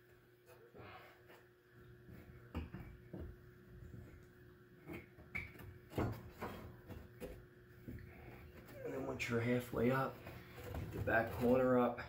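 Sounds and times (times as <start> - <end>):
light knocks and bumps: 2.0 - 11.9.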